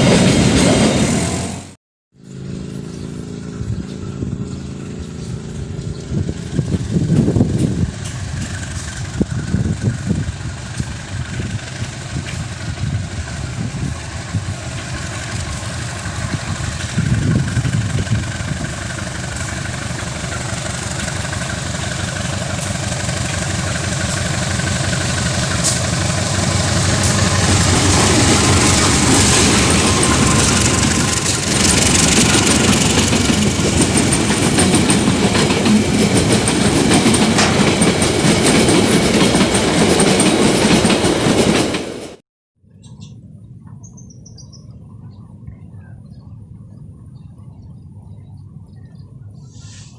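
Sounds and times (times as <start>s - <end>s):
diesel locomotive engine drone: 0.0s - 42.2s, 42.8s - 49.9s
train rail noise: 0.0s - 42.2s, 49.2s - 49.9s.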